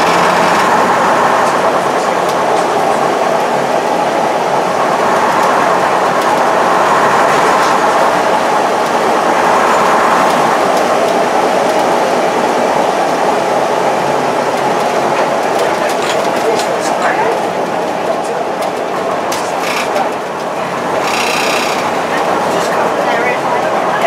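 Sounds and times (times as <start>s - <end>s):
bus diesel engine running: 0.0s - 24.0s
road and body noise: 0.0s - 24.0s.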